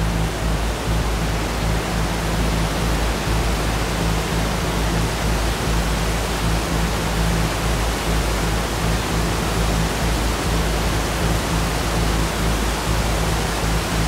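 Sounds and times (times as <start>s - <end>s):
low sustained music notes: 0.0s - 14.0s.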